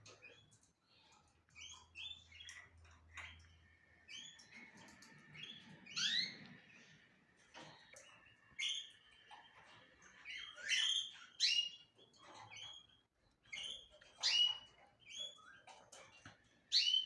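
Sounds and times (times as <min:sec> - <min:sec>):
cage birds chirping: 0:00.0 - 0:17.0.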